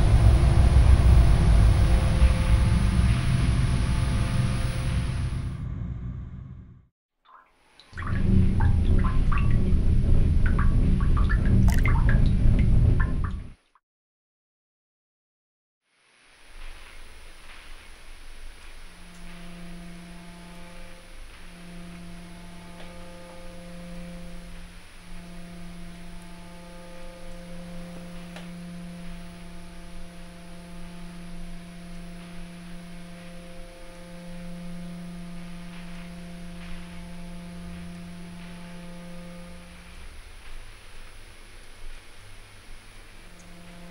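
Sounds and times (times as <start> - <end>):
low droning hum: 0.0 - 6.9, 8.0 - 13.6, 16.8 - 43.9.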